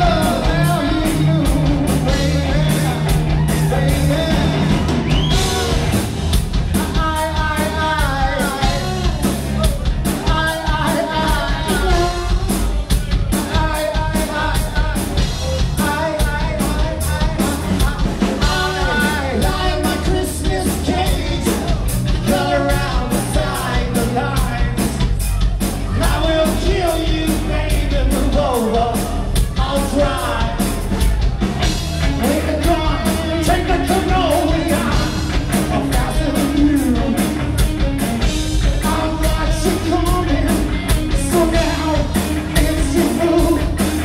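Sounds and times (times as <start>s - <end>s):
male singer: 0.0s - 5.4s, 6.7s - 37.6s, 38.5s - 44.0s
bass guitar: 0.0s - 44.0s
drum kit beat: 0.0s - 44.0s
electric guitar: 0.0s - 44.0s.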